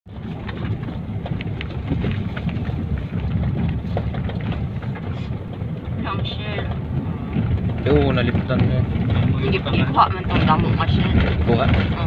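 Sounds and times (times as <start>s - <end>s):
wind and road noise rumble: 0.1s - 12.0s.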